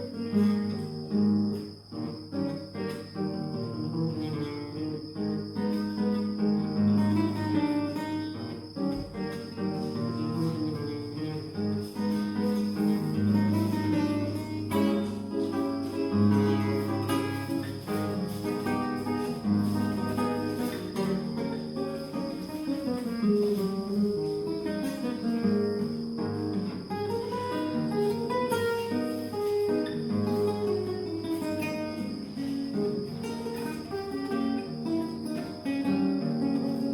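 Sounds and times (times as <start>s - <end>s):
cricket trill: 0.0s - 36.9s
solo spanish guitar: 0.0s - 36.9s.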